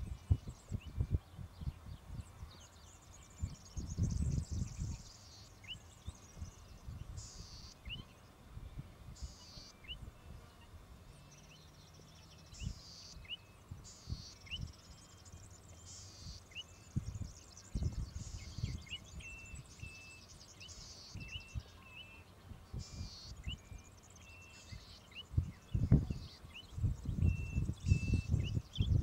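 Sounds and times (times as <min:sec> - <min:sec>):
bird singing buzzy notes: 0:00.0 - 0:29.0
wind rumble on microphone: 0:00.0 - 0:29.0.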